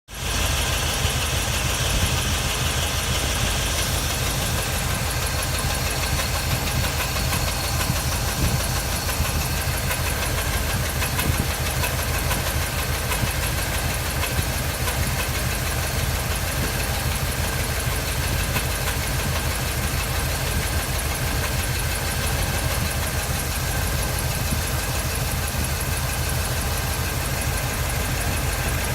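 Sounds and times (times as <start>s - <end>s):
engine knocking and banging: 0.1s - 28.9s
engine running: 0.1s - 28.9s.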